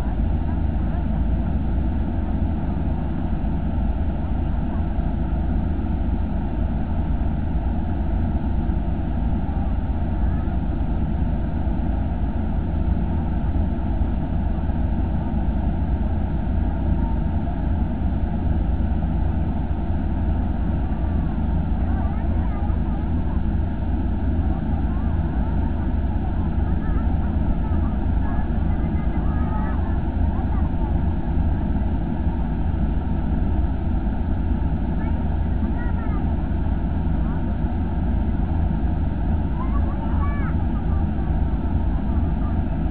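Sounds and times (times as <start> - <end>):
combine harvester deep drone: 0.0 - 42.9.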